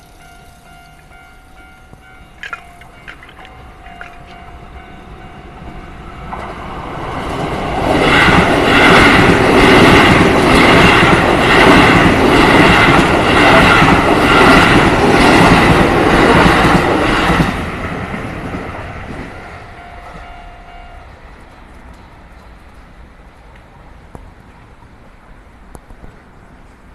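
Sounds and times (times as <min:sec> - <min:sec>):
electric train passing: 0:00.0 - 0:26.9.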